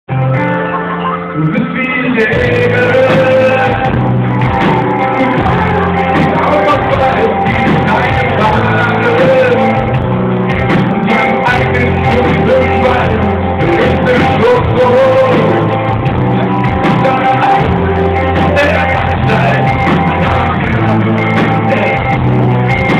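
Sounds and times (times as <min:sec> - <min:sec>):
live rock band playing: 0:00.1 - 0:22.9
person singing: 0:00.1 - 0:22.9.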